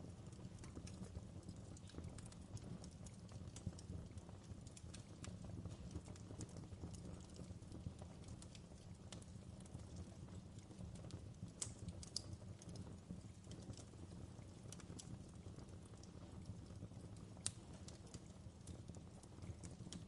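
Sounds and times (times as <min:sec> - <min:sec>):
fireplace fire crackling: 0:00.0 - 0:20.0
sharp pops from fire: 0:00.4 - 0:20.0.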